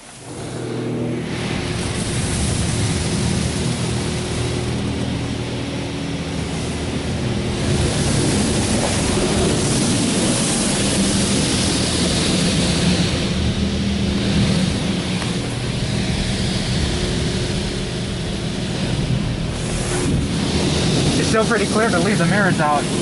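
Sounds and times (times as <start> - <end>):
high-pressure water spray hissing: 0.0 - 23.0
low hum: 0.0 - 23.0.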